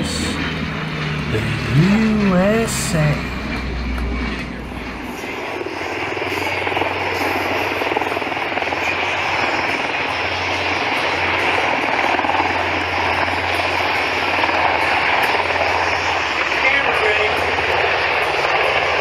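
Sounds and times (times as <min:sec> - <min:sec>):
aircraft engine running: 0:00.0 - 0:19.0.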